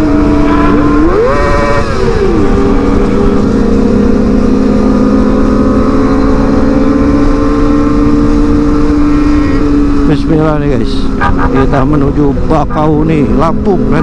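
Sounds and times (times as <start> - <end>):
heavy wind noise: 0.0 - 14.0
motorcycle engine revving: 0.0 - 14.0.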